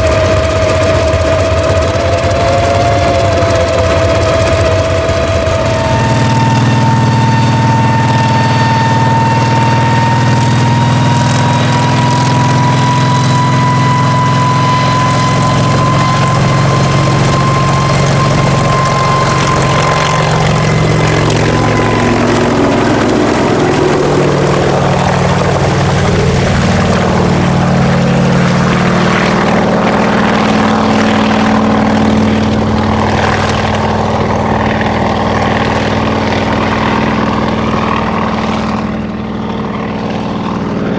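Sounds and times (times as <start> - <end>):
helicopter engine and rotor drone: 0.0 - 40.9
high whine: 0.0 - 40.9.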